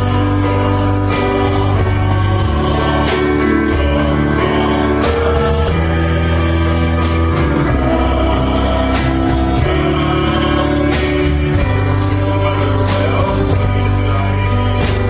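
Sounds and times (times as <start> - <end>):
band playing: 0.0 - 15.0
voices singing together: 0.0 - 15.0.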